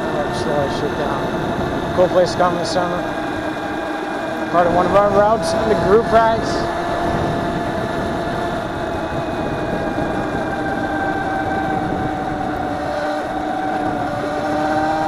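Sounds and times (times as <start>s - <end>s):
motorcycle engine running: 0.0s - 15.0s
road noise: 0.0s - 15.0s
wind rushing: 0.0s - 15.0s.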